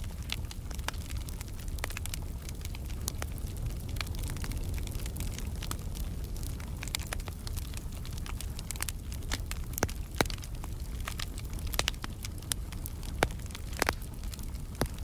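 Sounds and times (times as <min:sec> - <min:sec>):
low rumble of flames: 0:00.0 - 0:15.0
sharp pops from fire: 0:00.0 - 0:15.0
wood fire crackling: 0:00.0 - 0:15.0.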